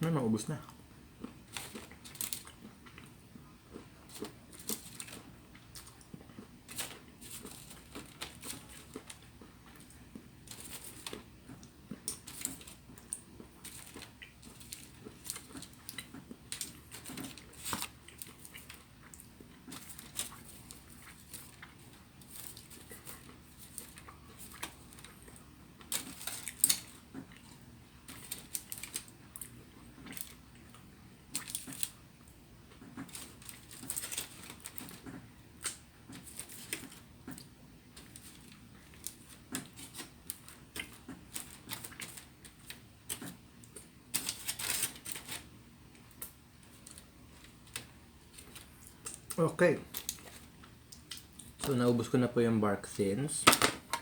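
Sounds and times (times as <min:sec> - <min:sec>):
crunching and chewing chocolate: 0:00.6 - 0:52.1.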